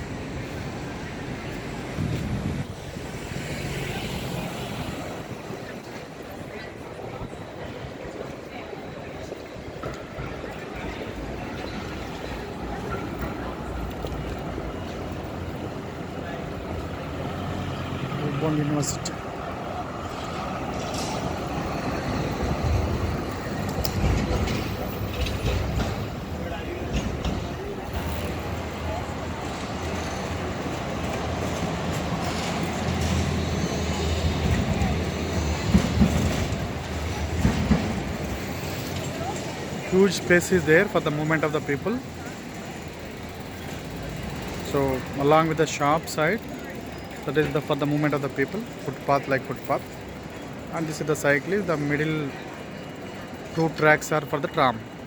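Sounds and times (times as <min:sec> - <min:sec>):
street traffic: 0:00.0 - 0:55.0
tram rumbling on rails: 0:00.0 - 0:55.0.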